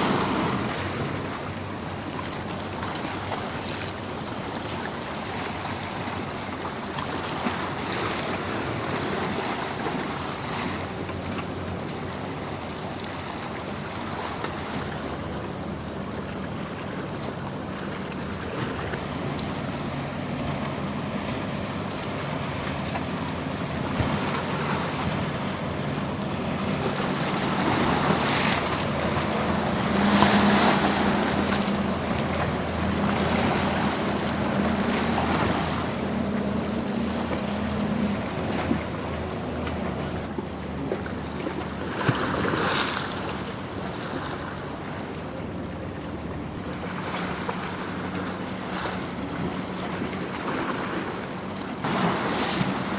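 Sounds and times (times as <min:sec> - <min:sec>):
boat engine drone: 0:00.0 - 0:52.9
surf and rolling waves: 0:00.0 - 0:52.9.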